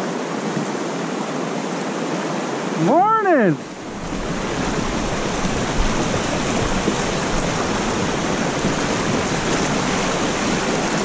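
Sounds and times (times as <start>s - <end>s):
fast-flowing river water: 0.0s - 11.0s.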